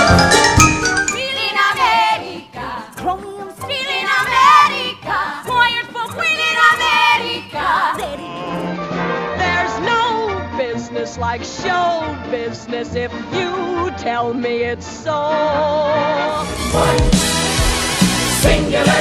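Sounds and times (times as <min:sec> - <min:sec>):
ensemble singing show tune: 0:01.1 - 0:14.4, 0:15.0 - 0:17.4, 0:18.4 - 0:19.0.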